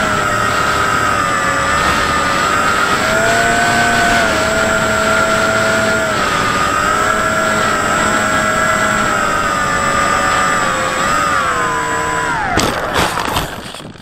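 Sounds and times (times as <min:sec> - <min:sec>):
electric motor propeller whining: 0:00.0 - 0:14.0.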